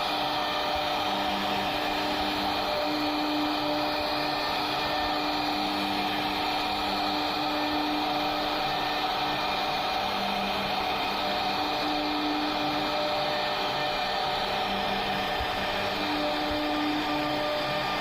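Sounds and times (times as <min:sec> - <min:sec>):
router spindle motor whine: 0:00.0 - 0:18.0.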